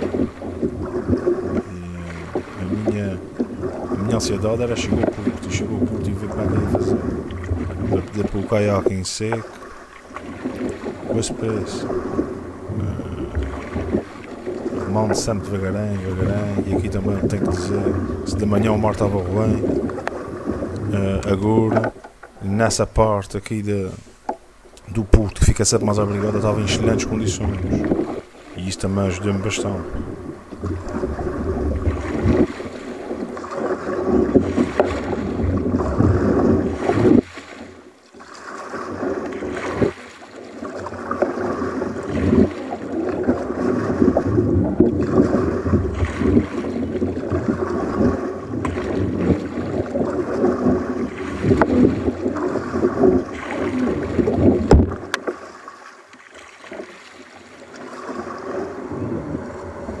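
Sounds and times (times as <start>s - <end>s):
wind buffeting microphone: 0.0s - 9.5s, 10.2s - 22.0s, 25.0s - 37.4s, 41.5s - 55.2s, 58.9s - 60.0s
water splashing against kayak hull: 0.0s - 60.0s.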